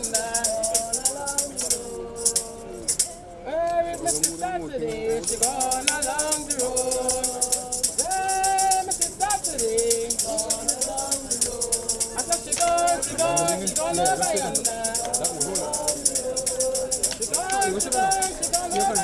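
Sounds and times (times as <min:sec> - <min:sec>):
shaker beat: 0:00.0 - 0:03.2, 0:03.8 - 0:19.0
voices singing: 0:00.0 - 0:19.0.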